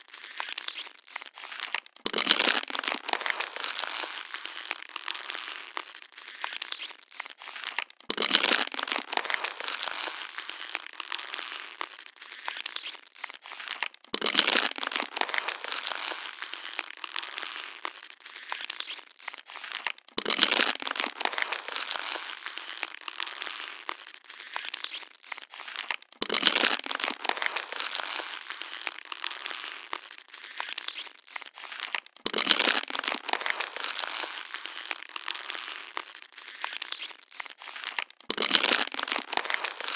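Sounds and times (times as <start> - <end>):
plastic bottle crinkling: 0.0 - 39.9.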